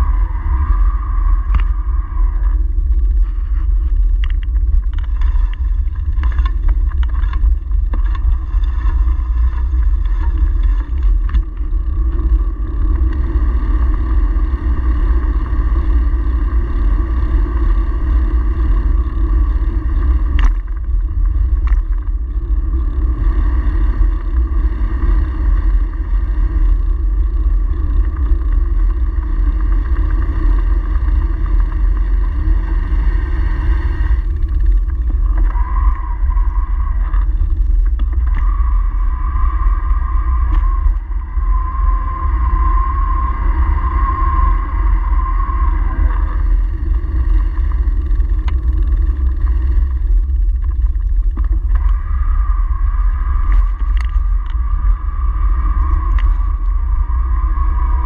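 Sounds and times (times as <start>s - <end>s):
road rumble: 0.0s - 58.0s
wind buffeting microphone: 0.0s - 58.0s.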